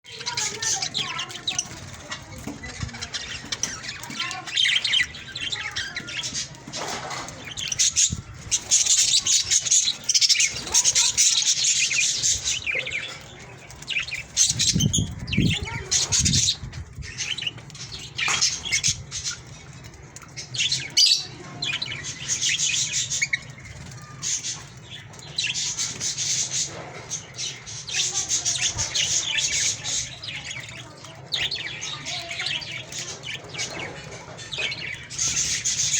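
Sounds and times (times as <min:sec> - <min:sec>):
birds chirping and squawking: 0:00.0 - 0:35.9.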